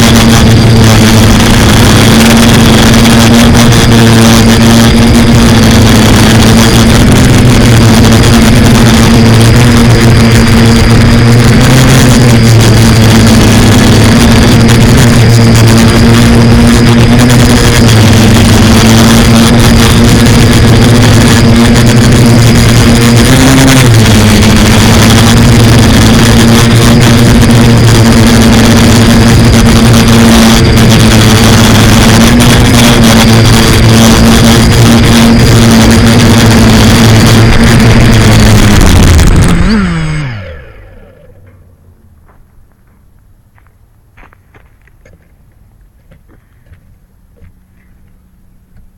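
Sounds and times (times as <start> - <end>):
drone propellers whirring: 0.0 - 43.6.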